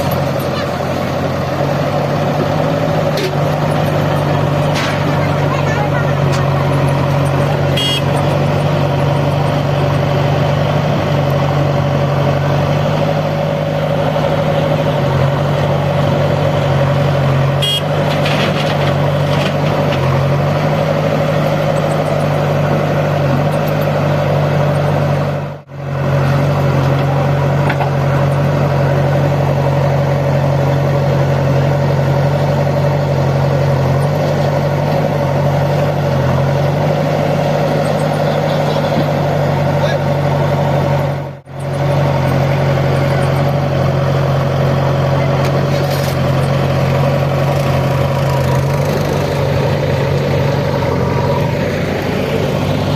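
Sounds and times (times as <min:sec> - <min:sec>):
heavy machine engine idling: 0:00.0 - 0:52.9.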